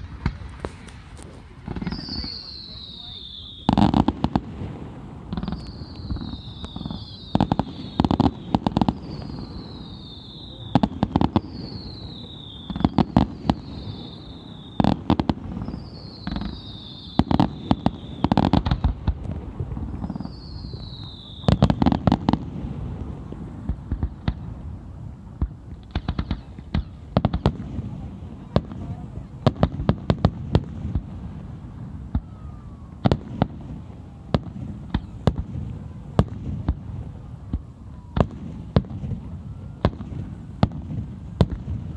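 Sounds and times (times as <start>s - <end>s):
falling firework whistles: 0.0s - 24.4s, 31.9s - 41.9s
firework bangs and crackling: 0.0s - 41.9s.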